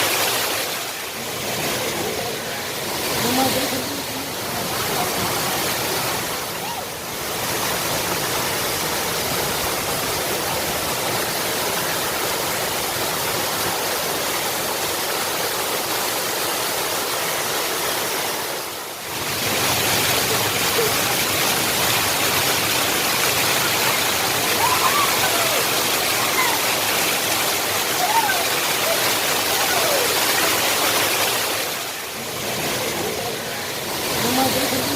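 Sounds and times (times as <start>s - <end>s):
floodwater rushing: 0.0s - 34.9s.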